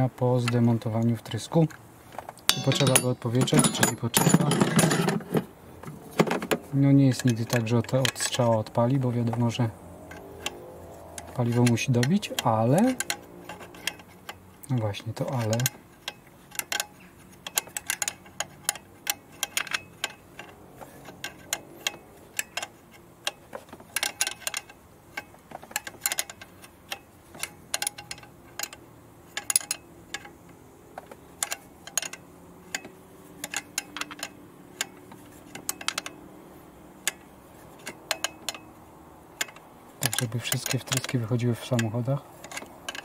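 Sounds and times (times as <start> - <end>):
spanner clicking on metal nuts: 0.0 - 43.0.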